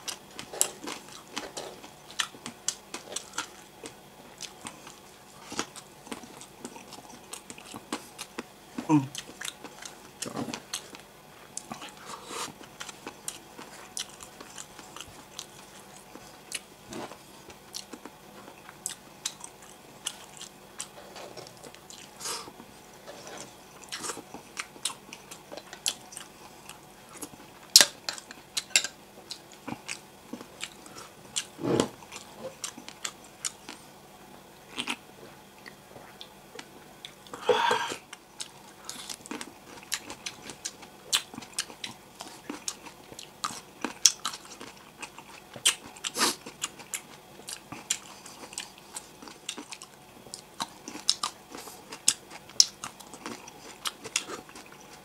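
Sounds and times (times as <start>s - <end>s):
chewing and crunching: 0.0s - 34.0s, 34.6s - 55.0s.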